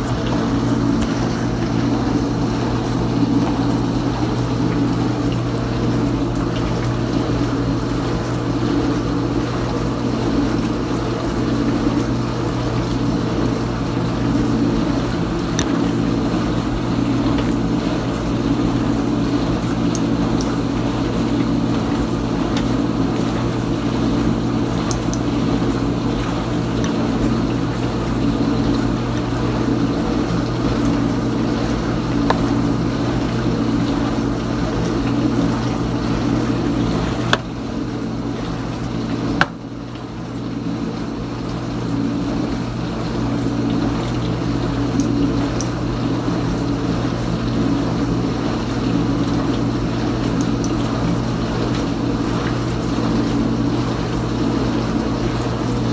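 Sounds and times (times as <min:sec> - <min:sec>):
dishwasher pump humming: 0:00.0 - 0:55.9
water spraying inside dishwasher: 0:00.0 - 0:55.9.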